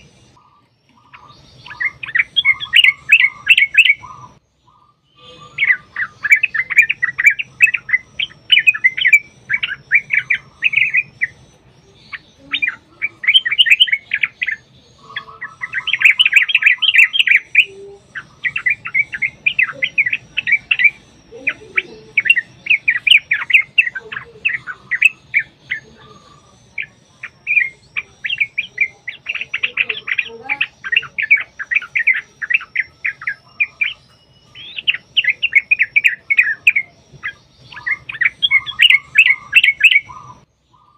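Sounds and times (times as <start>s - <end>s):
bulbuls chirping song: 0.0s - 40.9s.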